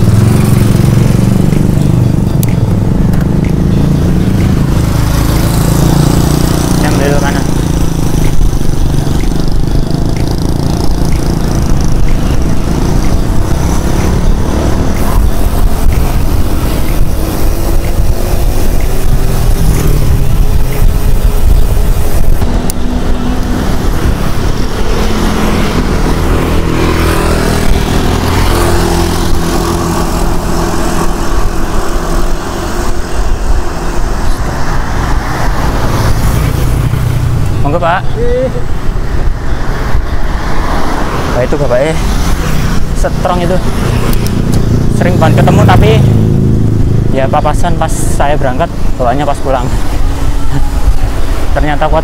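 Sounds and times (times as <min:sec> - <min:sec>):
motorbikes passing: 0:00.0 - 0:52.0
road traffic: 0:00.0 - 0:52.0
wind rumbling on microphone: 0:00.0 - 0:52.0.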